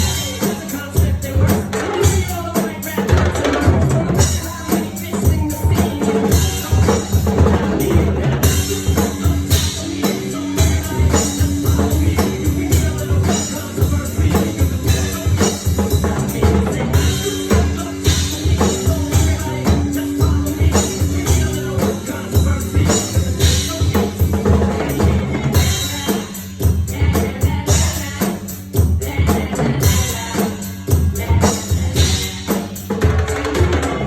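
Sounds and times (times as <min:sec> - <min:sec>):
drum kit groove: 0:00.0 - 0:34.0
hip-hop backing track: 0:00.0 - 0:34.0.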